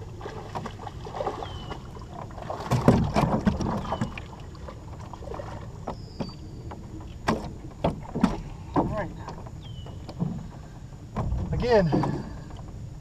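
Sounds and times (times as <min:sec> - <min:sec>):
knocks and creaks of boat hull: 0:00.2 - 0:13.0.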